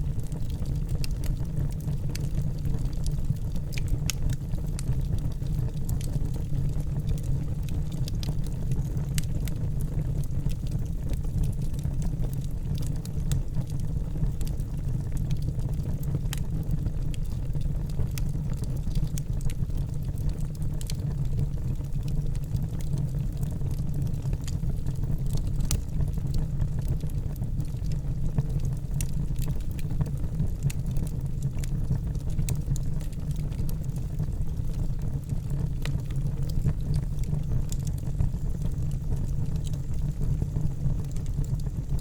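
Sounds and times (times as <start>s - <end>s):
fire flames rumbling: 0.0s - 42.0s
wood fire crackling and popping: 0.0s - 42.0s.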